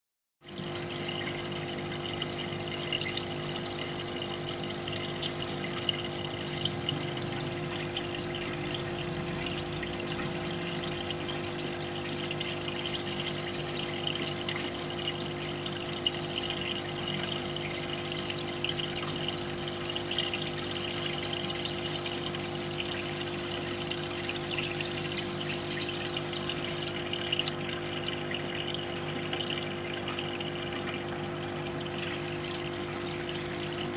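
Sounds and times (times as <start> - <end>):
aquarium pump humming: 0.4 - 33.9.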